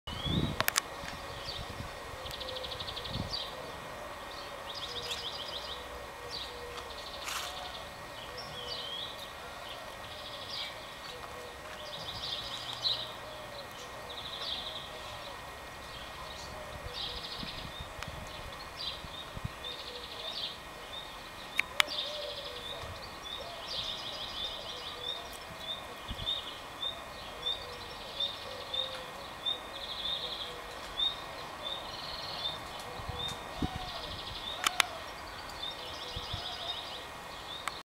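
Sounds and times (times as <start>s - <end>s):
cicadas singing: 0.1s - 37.8s.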